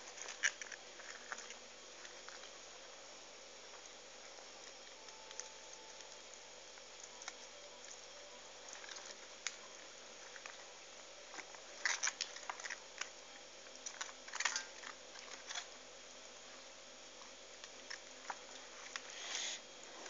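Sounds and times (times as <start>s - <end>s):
hands squishing cabbage leaves: 0.0s - 3.0s, 3.6s - 20.0s.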